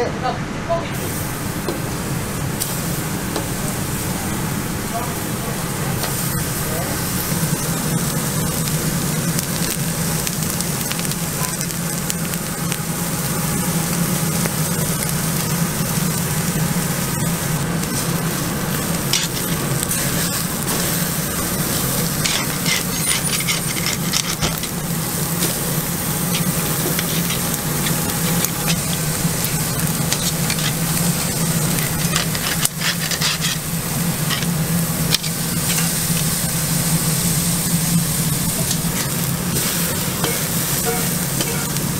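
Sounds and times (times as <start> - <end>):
charcoal fire crackling: 1.0 - 41.9
steaks sizzling on a grill: 1.0 - 41.9.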